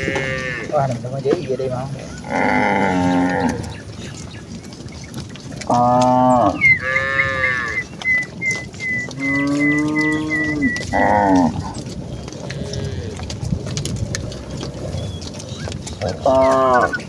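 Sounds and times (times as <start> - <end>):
cattle mooing: 0.0 - 17.0.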